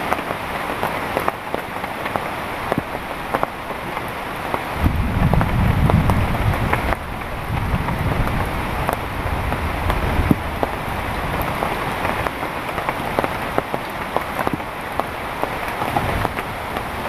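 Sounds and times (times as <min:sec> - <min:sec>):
heavy rain falling: 0:00.0 - 0:17.0
raindrops tapping sharply: 0:00.0 - 0:17.0.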